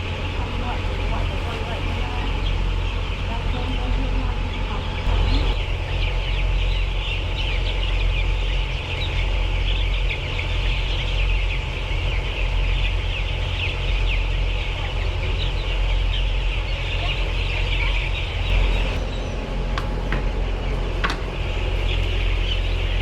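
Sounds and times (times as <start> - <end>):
chickens clucking: 0.0 - 23.0
low hum: 0.0 - 23.0.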